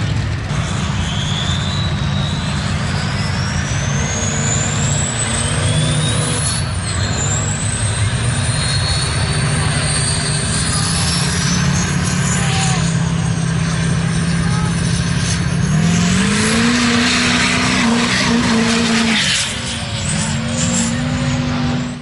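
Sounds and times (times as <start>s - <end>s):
truck engine rumbling: 0.0s - 22.0s
turbocharger whistle: 0.5s - 22.0s.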